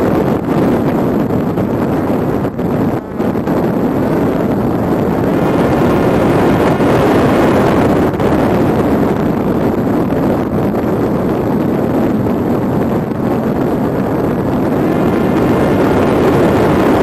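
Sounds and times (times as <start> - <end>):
drone propeller noise: 0.0 - 17.0
wind rush: 0.0 - 17.0.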